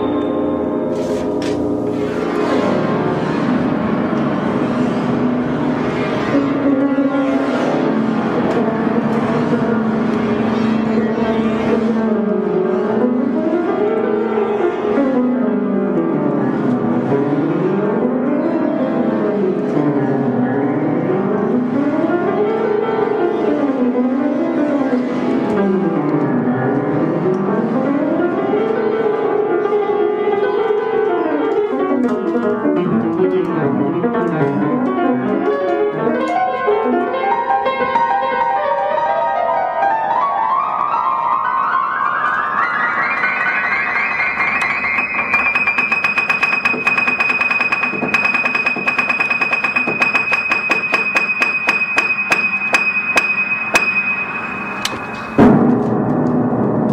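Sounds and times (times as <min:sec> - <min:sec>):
piano improvisation runs: 0:00.0 - 0:56.9.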